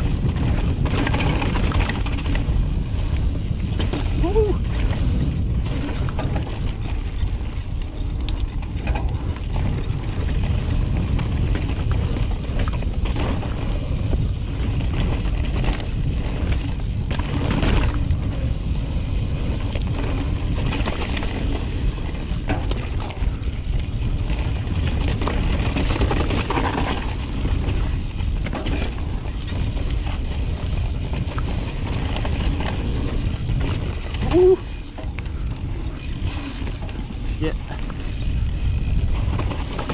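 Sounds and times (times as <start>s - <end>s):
bike rattling and clunking: 0.0s - 39.9s
wind rushing over microphone: 0.0s - 39.9s.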